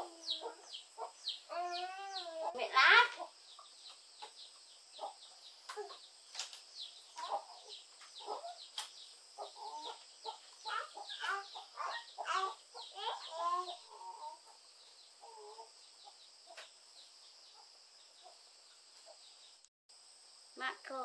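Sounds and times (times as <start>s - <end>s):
chickens clucking: 0.0s - 16.8s.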